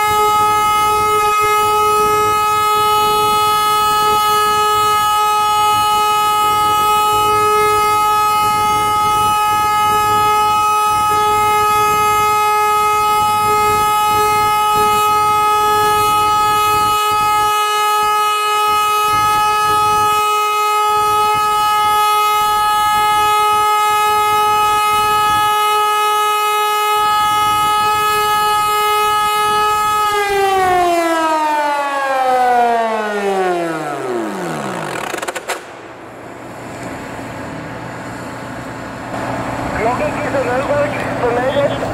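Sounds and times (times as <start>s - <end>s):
air siren high tone winding down: 0.0s - 35.6s.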